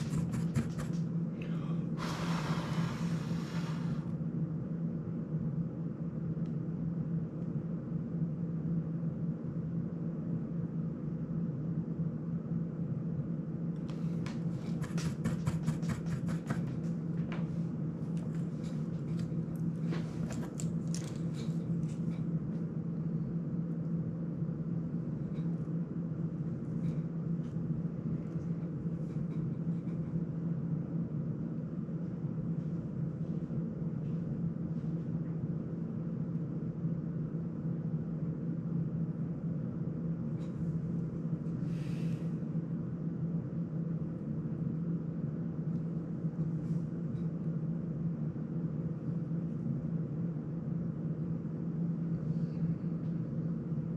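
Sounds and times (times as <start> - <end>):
steady hum: 0.0 - 53.9.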